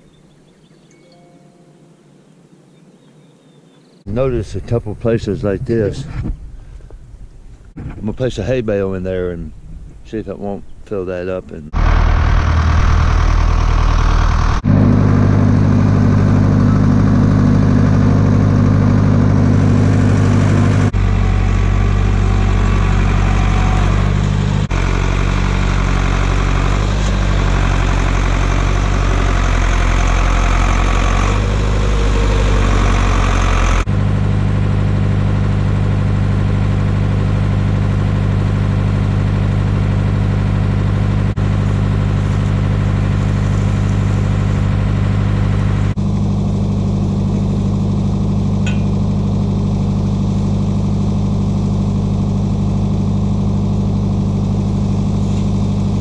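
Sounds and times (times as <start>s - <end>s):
diesel tractor engine running: 4.1s - 56.0s.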